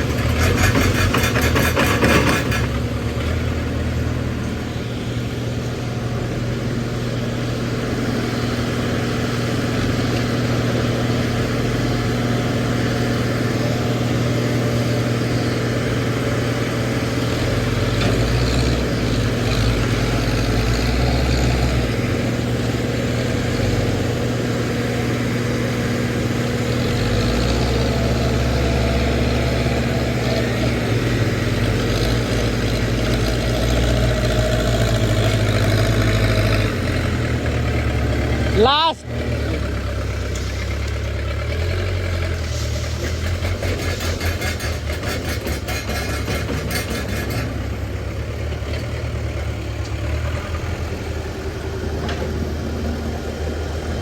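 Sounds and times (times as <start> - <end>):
deep engine rumble: 0.0 - 54.0
diesel engine running: 0.0 - 54.0.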